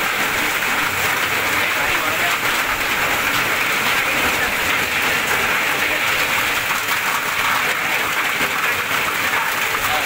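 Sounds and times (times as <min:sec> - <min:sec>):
heavy rain splashing into water: 0:00.0 - 0:10.0.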